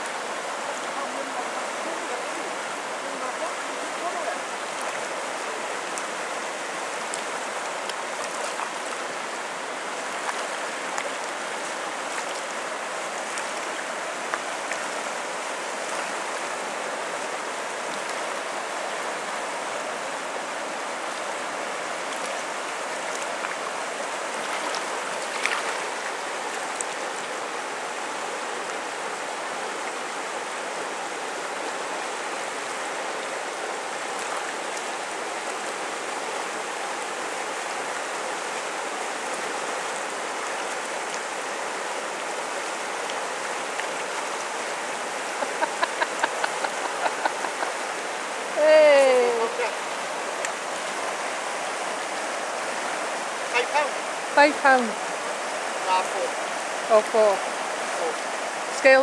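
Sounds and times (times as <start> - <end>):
river rushing over stones: 0.0 - 59.0.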